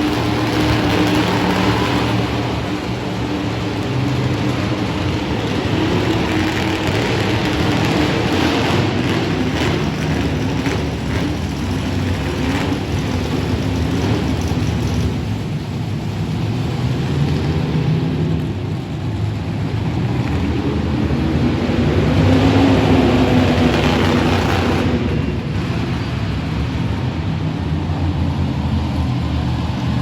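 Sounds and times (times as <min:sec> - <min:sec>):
monster truck engine running: 0:00.0 - 0:30.0.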